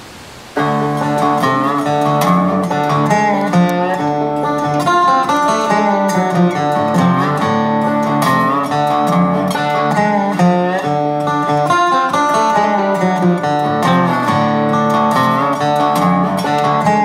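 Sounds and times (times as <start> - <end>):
acoustic guitar music: 0.5 - 17.0.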